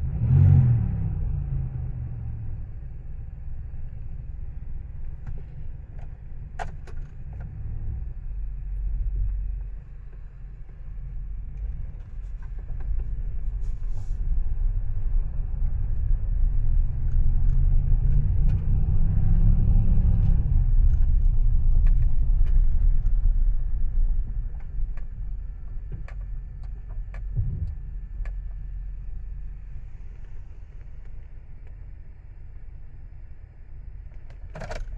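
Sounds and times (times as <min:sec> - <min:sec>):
van engine rumbling: 0:00.0 - 0:34.9.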